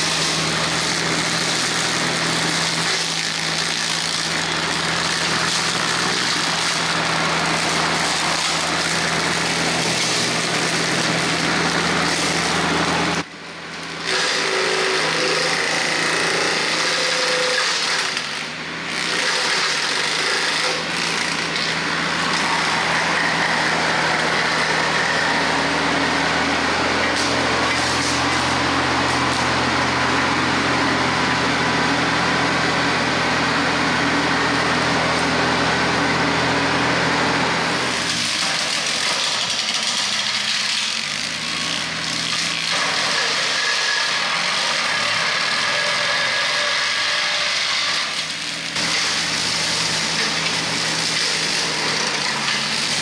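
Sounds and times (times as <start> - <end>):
rotary cutter chopping brush: 0.0 - 53.0
tractor diesel engine running: 0.0 - 53.0.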